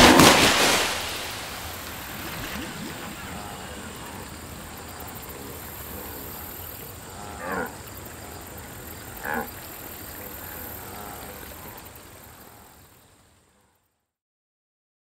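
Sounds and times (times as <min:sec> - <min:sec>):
steady background ambience: 0:00.0 - 0:13.4.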